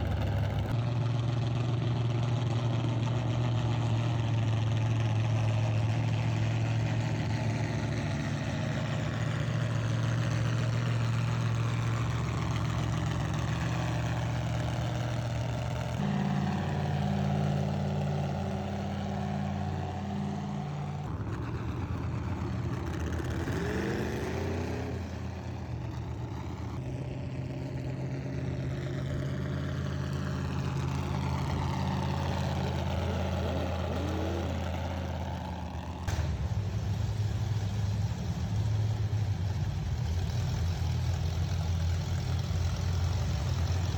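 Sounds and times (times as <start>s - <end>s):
vehicle engines idling: 0.0s - 43.9s.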